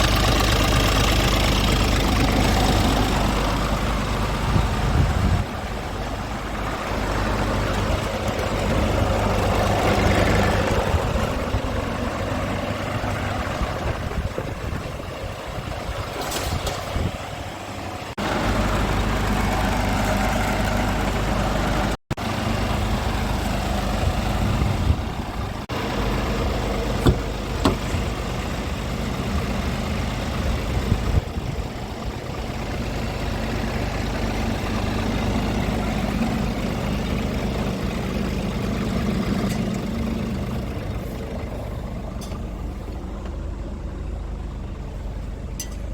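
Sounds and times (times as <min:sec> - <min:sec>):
truck diesel engine idling: 0:00.0 - 0:45.9.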